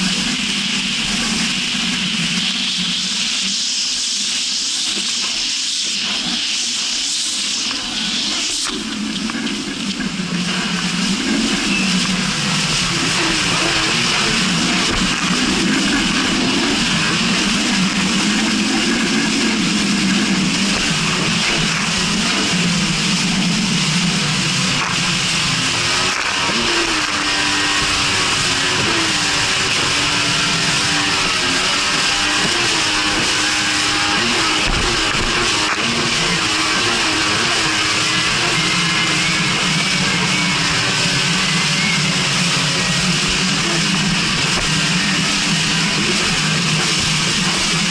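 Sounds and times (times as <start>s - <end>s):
jet ski engine running: 0.0s - 47.9s
wind and spray rushing: 0.0s - 47.9s.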